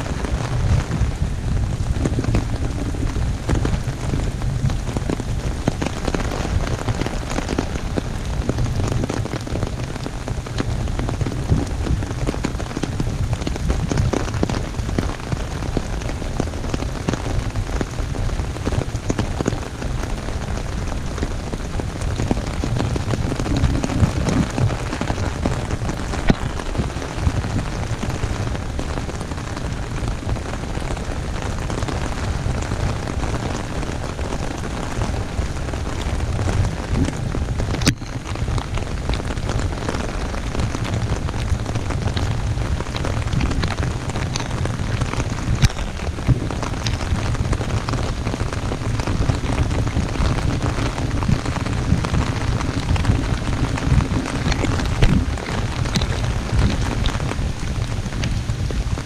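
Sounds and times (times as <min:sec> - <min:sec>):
heavy rain on an umbrella: 0:00.0 - 0:59.0.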